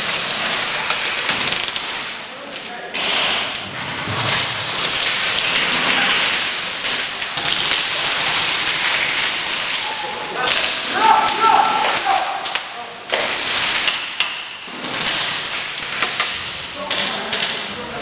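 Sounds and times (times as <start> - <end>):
pellets hitting plywood walls: 0.0 - 2.3, 3.0 - 17.6.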